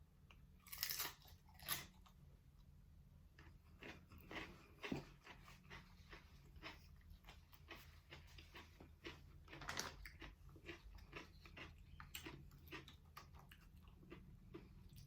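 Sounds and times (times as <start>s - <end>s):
close-up chewing crunches: 0.6s - 2.2s, 3.4s - 15.0s.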